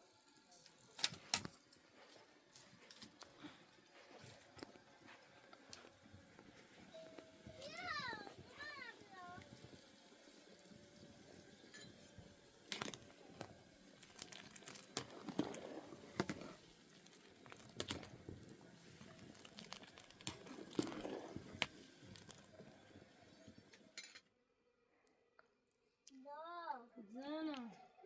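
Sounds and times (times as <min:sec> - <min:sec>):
crinkling and rustling: 0:00.5 - 0:24.2.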